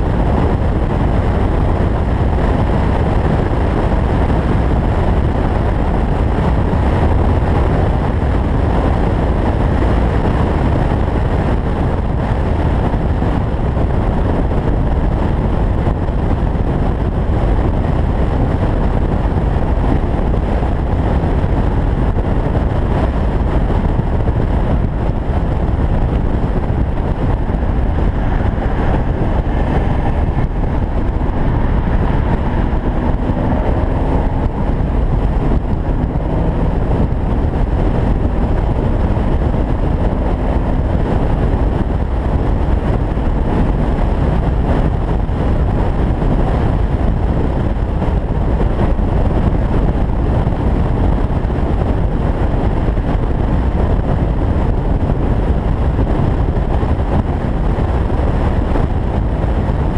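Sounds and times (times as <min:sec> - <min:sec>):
wind buffeting microphone: 0:00.0 - 0:59.9
wind rushing: 0:00.0 - 0:59.9.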